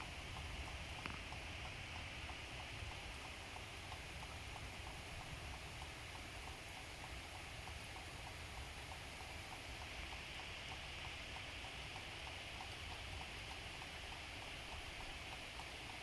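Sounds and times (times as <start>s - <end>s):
faint regular ticking: 0.0s - 16.0s
steady rain falling: 0.0s - 16.0s.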